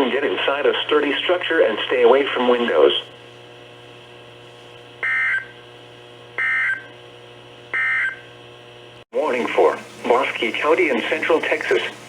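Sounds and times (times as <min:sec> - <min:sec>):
low radio hum: 0:00.0 - 0:12.0.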